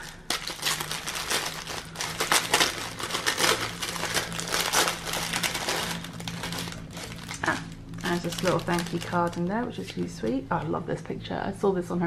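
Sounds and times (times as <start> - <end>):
paper bag crinkling and rustling: 0.0 - 10.4.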